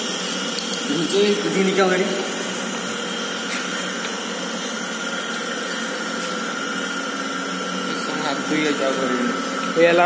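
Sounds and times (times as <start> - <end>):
lathe humming: 0.0 - 10.0.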